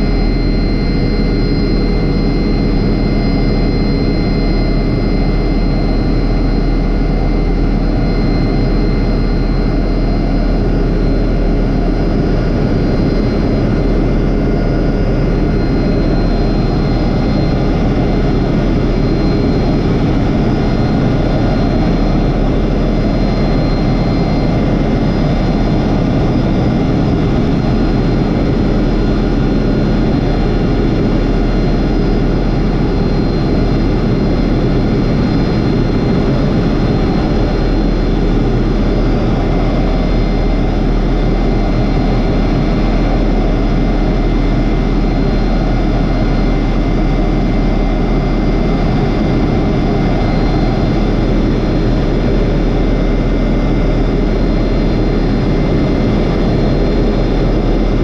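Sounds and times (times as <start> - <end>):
faint high whine: 0.0 - 58.0
helicopter drone: 0.0 - 58.0.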